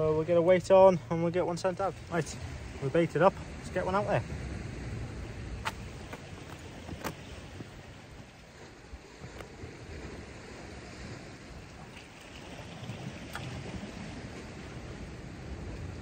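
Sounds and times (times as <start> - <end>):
gentle sea wash on rocks: 0.0 - 16.0
steady wind: 0.0 - 16.0.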